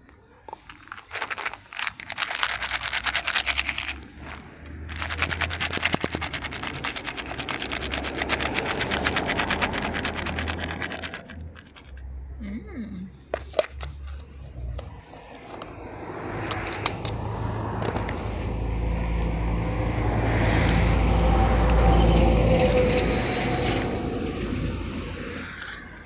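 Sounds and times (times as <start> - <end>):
low engine drone: 2.8 - 26.0.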